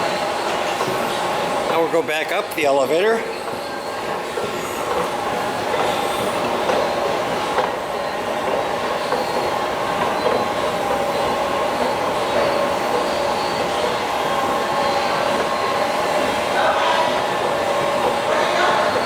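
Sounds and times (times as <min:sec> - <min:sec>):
elevator rumble and hum: 0:03.2 - 0:19.0.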